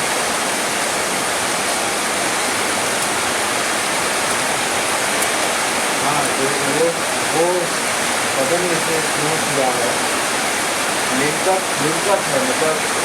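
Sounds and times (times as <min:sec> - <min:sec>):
dense rain hiss: 0:00.0 - 0:13.0.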